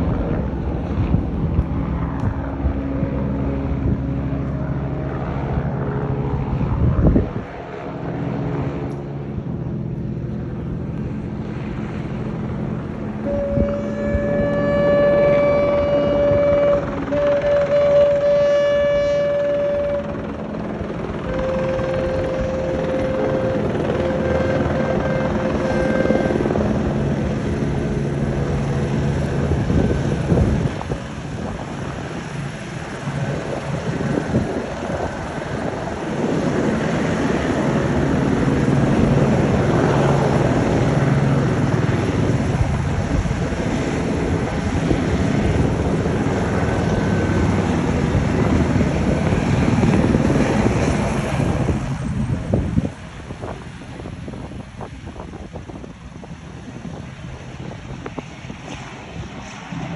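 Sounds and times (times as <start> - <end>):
engine drone: 0.0 - 59.9
rushing noise: 10.1 - 59.9.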